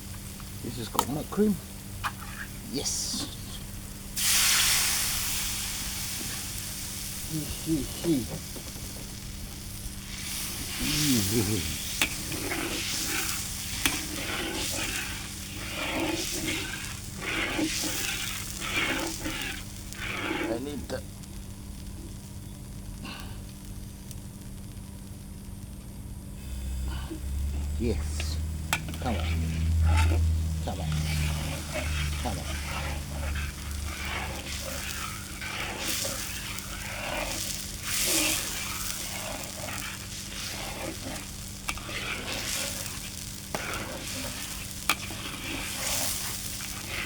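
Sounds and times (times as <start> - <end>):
curry hissing in a pan: 0.0 - 47.0
low steady hum: 0.0 - 47.0.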